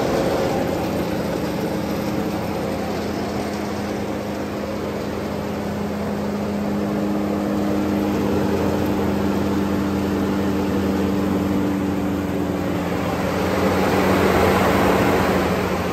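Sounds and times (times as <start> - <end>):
wood chipper engine droning: 0.0 - 15.9.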